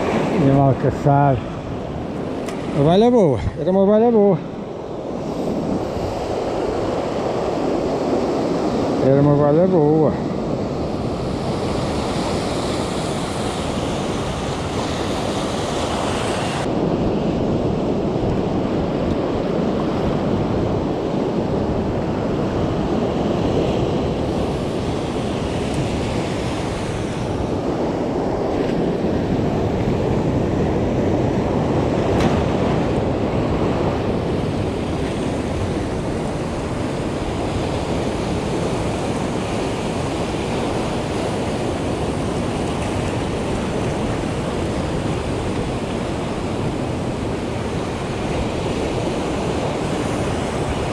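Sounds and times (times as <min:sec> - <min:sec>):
wind rumbling on microphone: 0:00.0 - 0:50.9.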